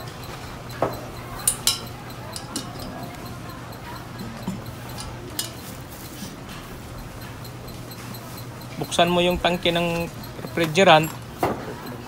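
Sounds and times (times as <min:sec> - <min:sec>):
metal tools clinking: 0:00.0 - 0:12.0
steady low hum: 0:00.0 - 0:12.0.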